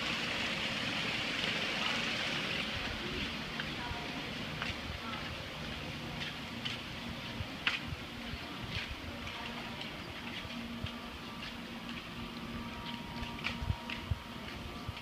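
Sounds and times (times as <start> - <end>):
flip-flop footsteps on concrete: 2.8 - 15.0.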